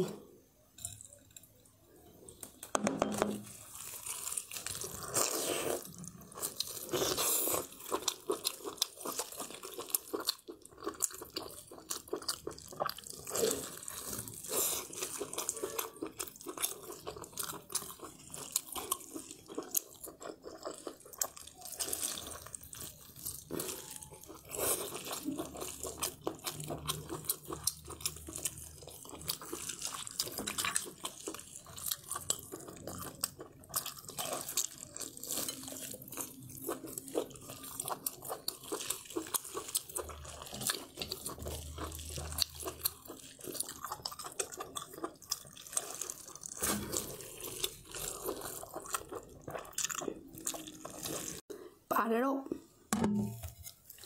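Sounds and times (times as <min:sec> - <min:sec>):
wet chewing and squelching: 0:03.7 - 0:51.5.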